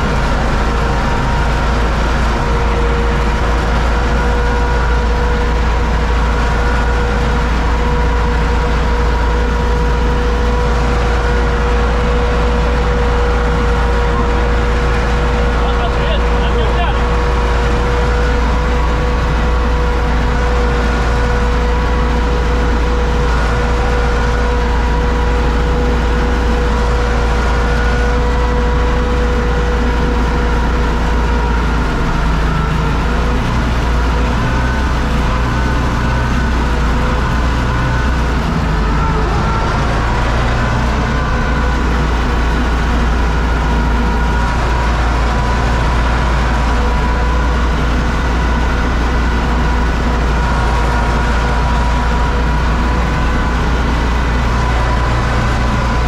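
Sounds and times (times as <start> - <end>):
diesel tractor engine drone: 0.0 - 56.0
steady whine: 0.0 - 56.0.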